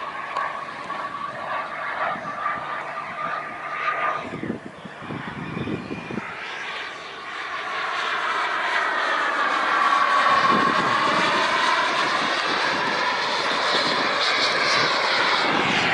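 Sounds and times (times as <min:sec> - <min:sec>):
wind rumble on microphone: 0:00.0 - 0:07.6, 0:09.9 - 0:15.9
model jet engine whining: 0:00.0 - 0:15.9.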